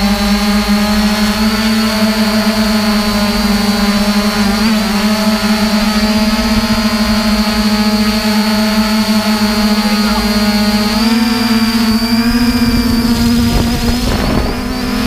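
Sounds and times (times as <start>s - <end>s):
drone propellers humming: 0.0s - 15.0s
thin high whine: 0.0s - 15.0s.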